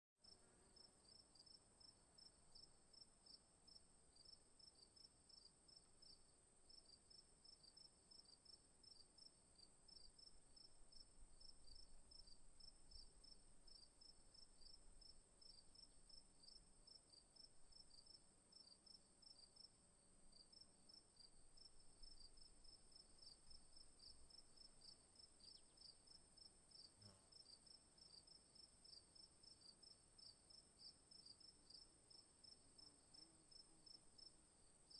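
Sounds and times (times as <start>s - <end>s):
rhythmic cricket chirping: 0.2s - 34.9s.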